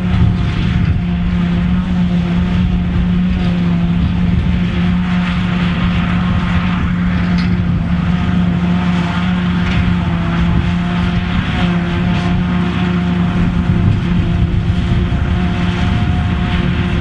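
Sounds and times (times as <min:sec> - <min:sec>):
even rushing noise: 0:00.0 - 0:17.0
tractor and forage harvester drone: 0:00.0 - 0:17.0.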